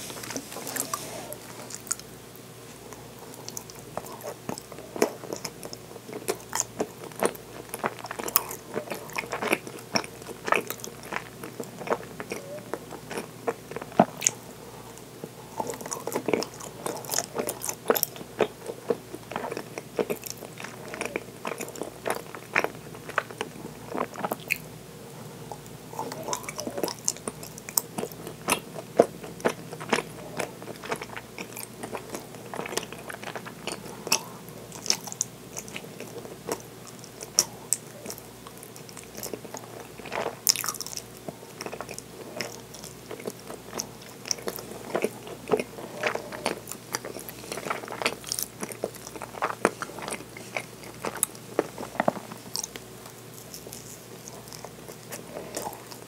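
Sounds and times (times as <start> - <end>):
close-up chewing: 0.0 - 56.0.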